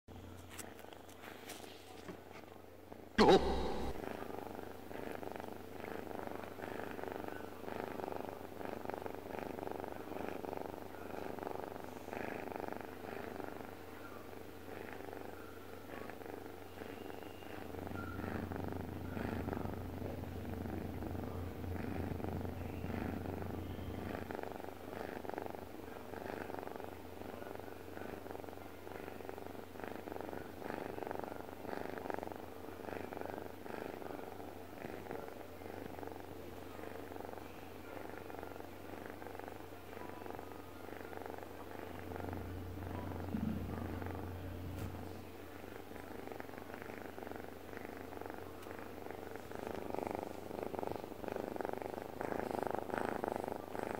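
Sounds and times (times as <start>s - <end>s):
cat purring: 0.2s - 53.9s.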